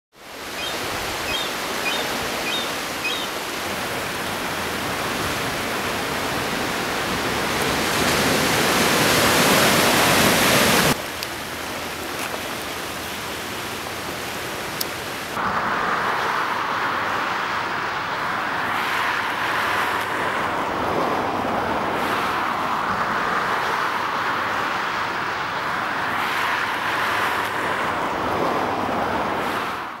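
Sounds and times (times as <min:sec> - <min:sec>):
ocean waves washing: 0:00.2 - 0:30.0.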